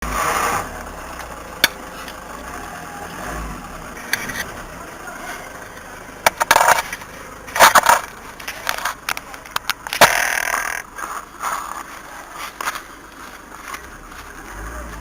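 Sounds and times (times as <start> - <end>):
car running with low hum: 0.0 - 15.0.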